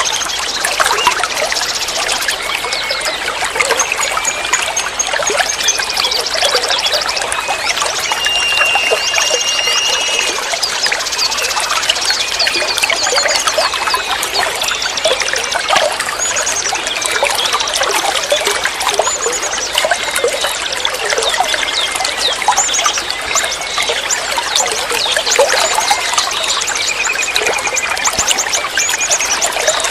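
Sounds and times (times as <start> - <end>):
small birds chirping: 0.0 - 29.9
water trickling and gurgling: 0.0 - 29.9.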